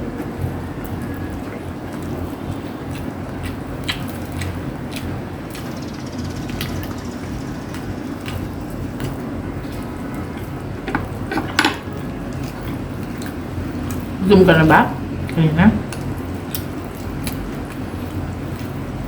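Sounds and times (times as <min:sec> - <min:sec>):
steady low hum: 0:00.0 - 0:19.0
clicks and crackles of chewing: 0:00.1 - 0:14.2, 0:15.1 - 0:19.0.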